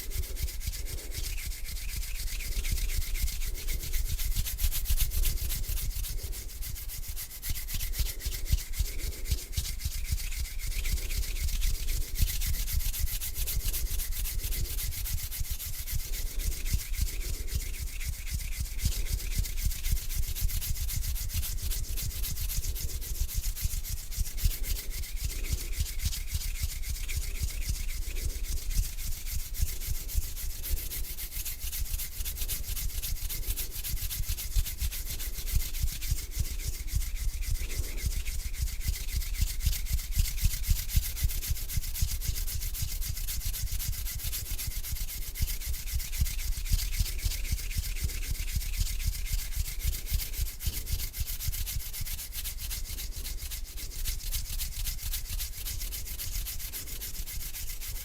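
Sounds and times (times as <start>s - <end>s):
hands rubbing together: 0.0s - 58.0s.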